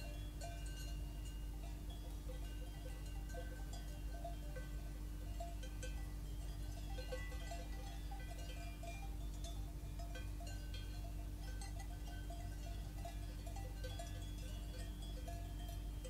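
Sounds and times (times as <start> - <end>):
cowbells clanking: 0.0 - 16.0
steady low hum: 0.0 - 16.0.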